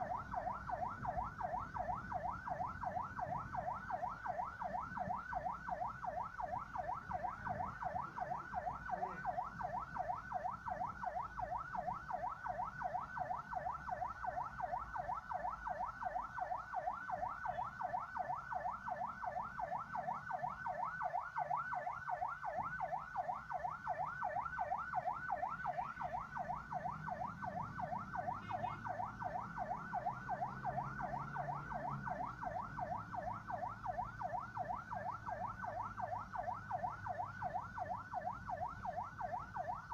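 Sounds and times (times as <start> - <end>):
ambulance siren yelping: 0.0 - 39.9
road noise rumble: 0.0 - 39.9.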